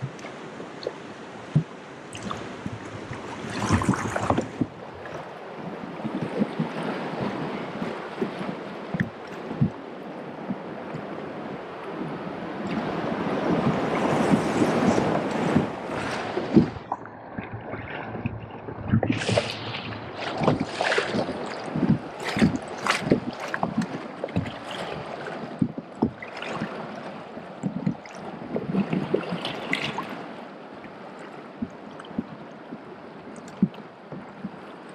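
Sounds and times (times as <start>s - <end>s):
wind on the microphone: 0.0s - 31.0s, 31.6s - 34.9s
paddle strokes: 0.0s - 34.9s
rushing splashing water: 0.0s - 34.9s.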